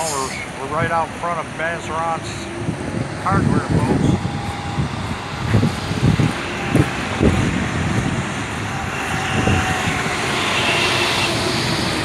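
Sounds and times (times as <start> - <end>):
motor vehicle rushing: 0.0 - 12.0.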